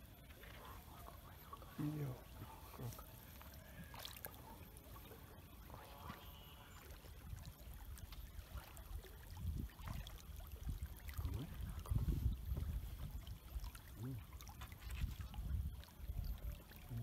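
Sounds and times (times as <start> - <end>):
water trickling and lapping: 0.0 - 17.0.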